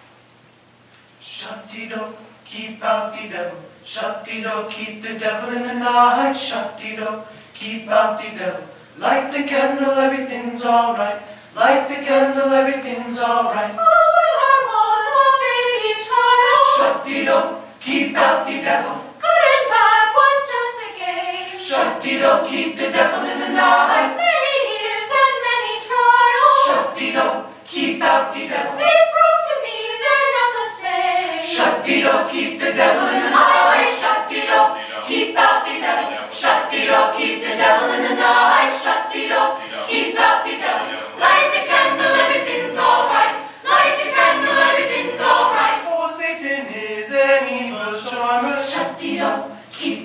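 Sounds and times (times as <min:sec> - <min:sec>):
choir singing a cappella: 0:01.4 - 0:50.0.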